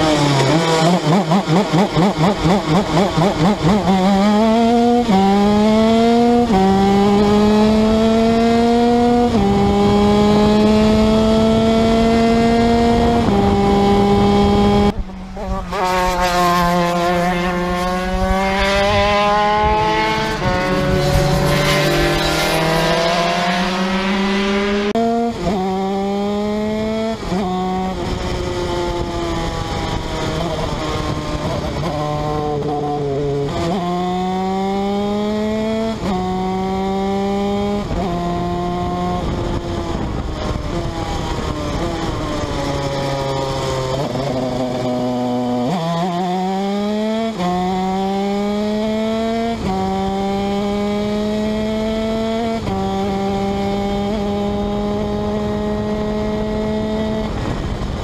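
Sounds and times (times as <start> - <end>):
kart engine at racing speed: 0.0 - 58.0.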